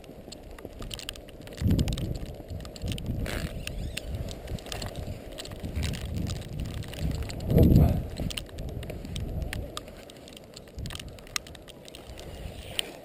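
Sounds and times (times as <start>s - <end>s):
faint crackles: 0.0s - 13.0s
wind buffeting microphone: 0.0s - 13.0s.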